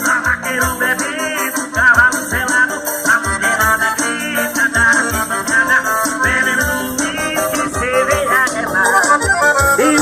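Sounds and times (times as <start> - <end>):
song with deep bass beat: 0.0 - 10.0.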